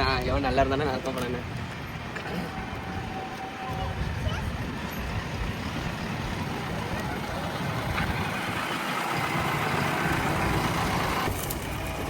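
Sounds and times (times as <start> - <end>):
diesel engine running: 1.6 - 12.0.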